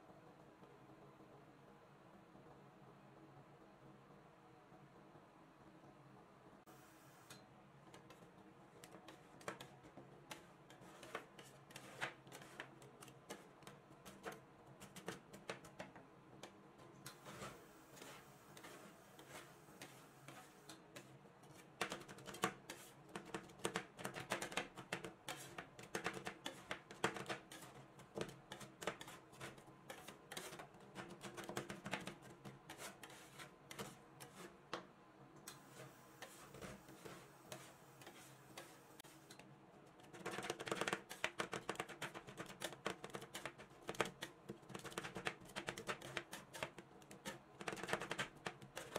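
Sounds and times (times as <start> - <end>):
metal spatulas tapping and scraping: 7.3 - 34.8, 35.5 - 48.9.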